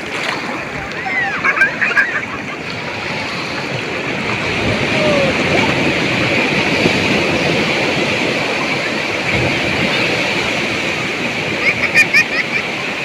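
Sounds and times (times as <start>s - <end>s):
sea surf breaking: 0.0s - 13.0s.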